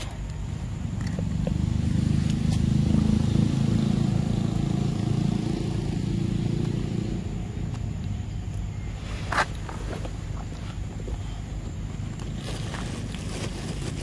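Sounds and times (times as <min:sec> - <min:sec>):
low vehicle engine drone: 0:00.0 - 0:14.0.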